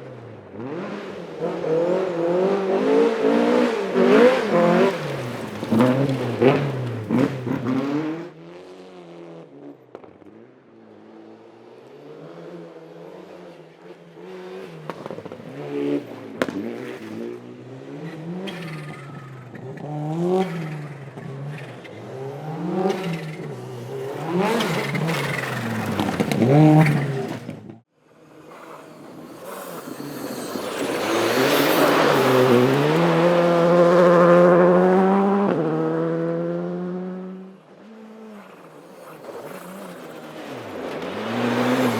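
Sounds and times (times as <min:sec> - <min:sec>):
rally car at full throttle: 0:00.0 - 0:41.9
rally car engine revving: 0:00.0 - 0:41.9.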